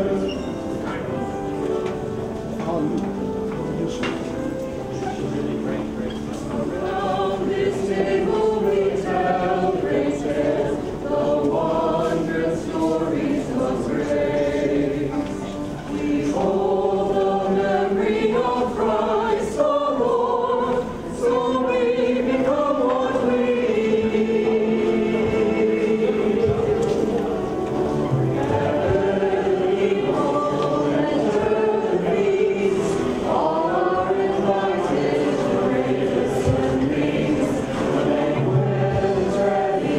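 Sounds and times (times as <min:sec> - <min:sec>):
choir singing a hymn: 0:00.0 - 0:02.5, 0:03.1 - 0:39.9.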